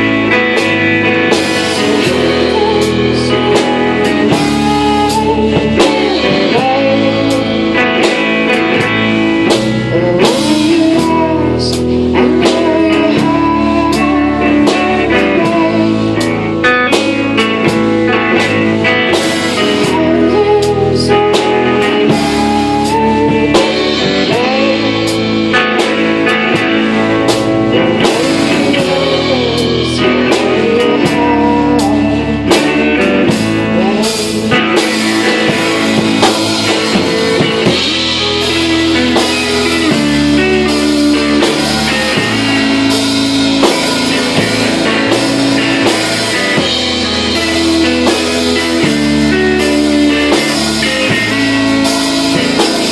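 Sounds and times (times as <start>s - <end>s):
live blues-rock band playing: 0.0s - 52.9s.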